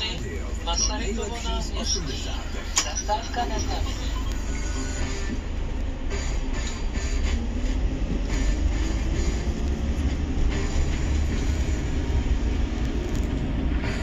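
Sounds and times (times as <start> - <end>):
minibus engine rumble: 0.0 - 14.0
road noise: 0.0 - 14.0.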